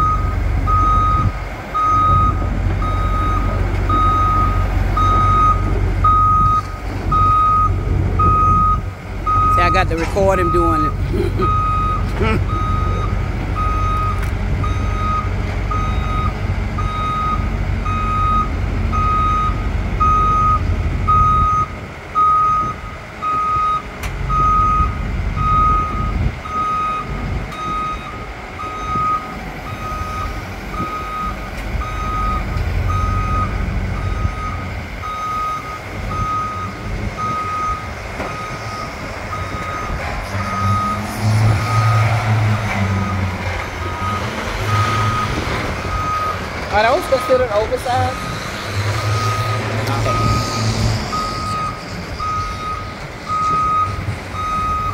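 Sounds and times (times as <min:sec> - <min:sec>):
excavator travel alarm beeping: 0:00.0 - 0:42.4, 0:43.0 - 0:54.9
diesel engine rumble: 0:00.0 - 0:54.9.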